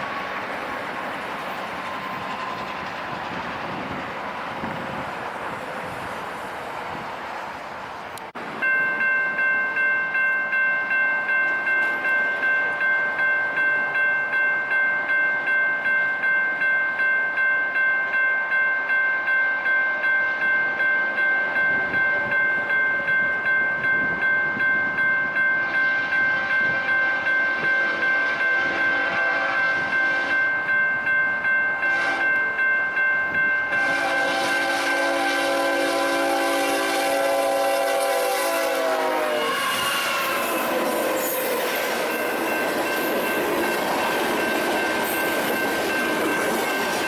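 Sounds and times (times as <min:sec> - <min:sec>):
crossing bell ringing: 0:00.0 - 0:47.0.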